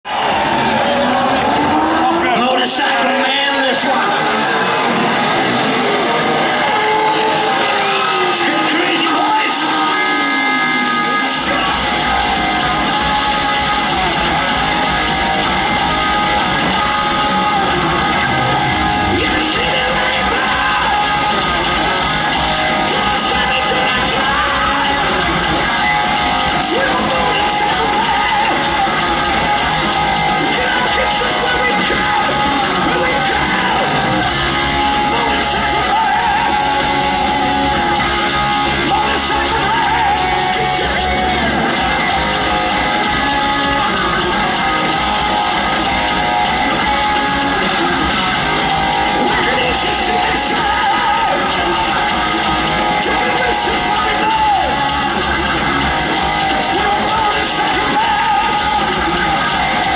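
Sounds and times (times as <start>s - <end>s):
drums: 0.0s - 59.9s
electric guitars: 0.0s - 59.9s
man singing lead vocal: 0.1s - 4.6s, 6.8s - 55.5s, 56.2s - 59.9s.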